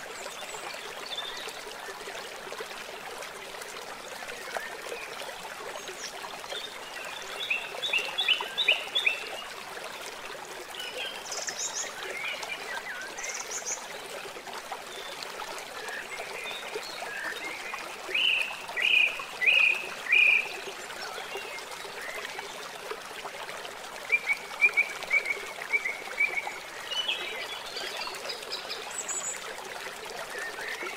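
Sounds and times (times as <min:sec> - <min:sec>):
stream running water: 0:00.0 - 0:30.9.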